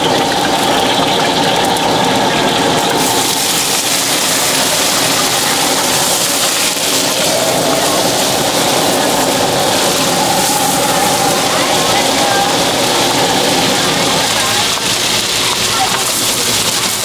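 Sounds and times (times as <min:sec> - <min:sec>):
gas burner roaring: 0:00.0 - 0:17.0
food sizzling in a wok: 0:01.8 - 0:17.0.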